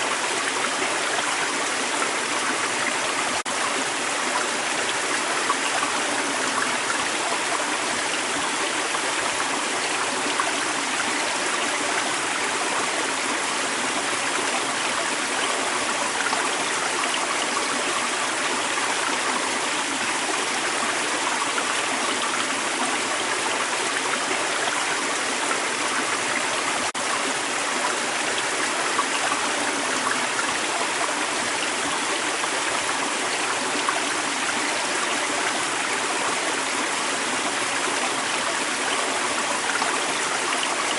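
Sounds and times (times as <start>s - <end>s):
creek babbling over rocks: 0.0s - 40.9s.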